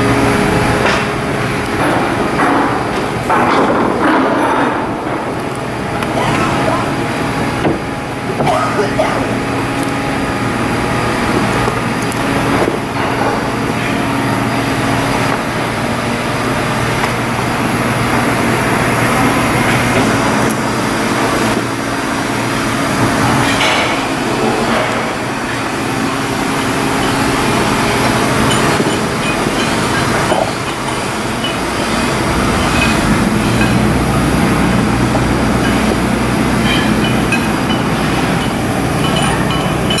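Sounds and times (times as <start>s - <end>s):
loud machinery hum: 0.0s - 40.0s.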